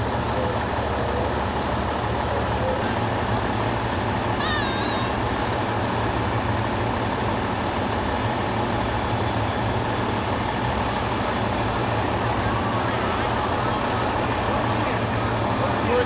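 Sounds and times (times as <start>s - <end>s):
fire engines idling: 0.0s - 16.0s.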